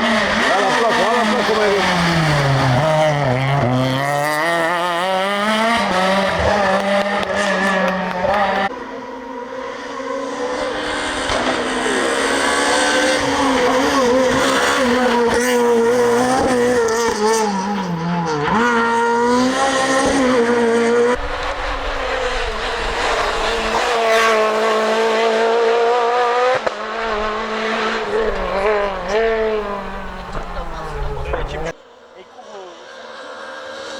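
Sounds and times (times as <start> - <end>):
rally car engine at high revs: 0.0 - 33.9.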